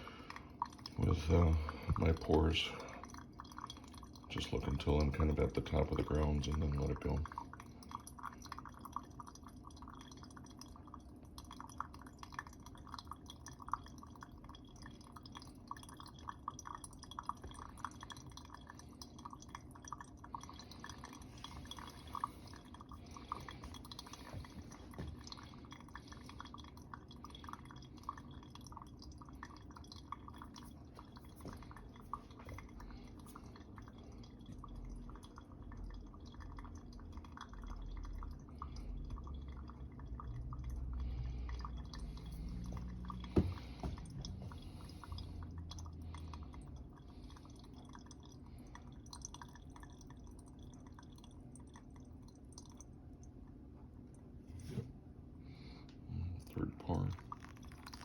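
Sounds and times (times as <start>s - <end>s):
coffee dripping: 0.0s - 54.7s, 55.5s - 58.0s.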